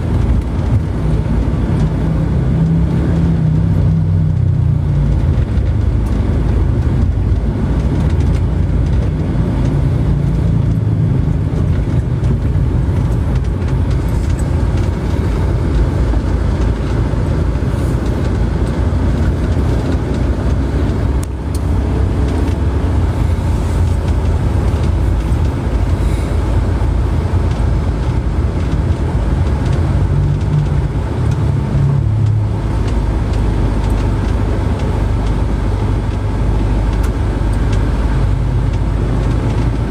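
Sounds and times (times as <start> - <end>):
moving vehicle low rumble: 0.0 - 39.9.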